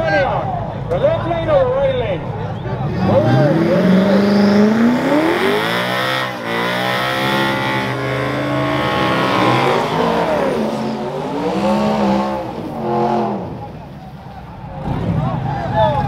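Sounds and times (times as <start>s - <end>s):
truck engines racing at full throttle: 0.0s - 16.0s.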